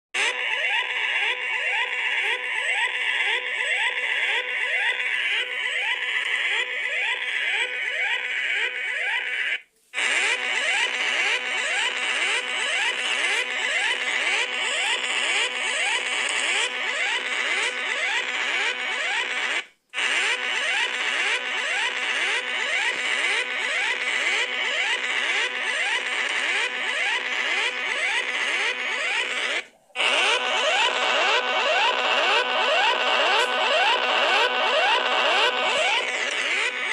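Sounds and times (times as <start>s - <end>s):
electronic whooping alarm tone: 0.2s - 36.9s.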